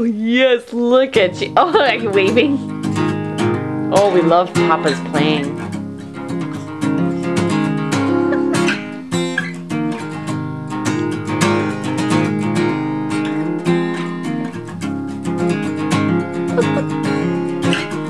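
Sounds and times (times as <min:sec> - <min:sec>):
acoustic guitar strumming chords: 0:01.2 - 0:18.0.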